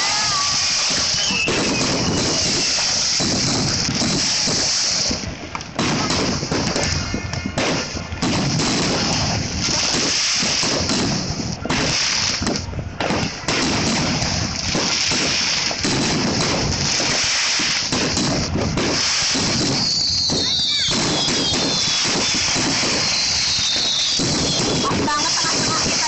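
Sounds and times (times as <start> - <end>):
fireworks bangs and crackle: 0.0 - 26.0.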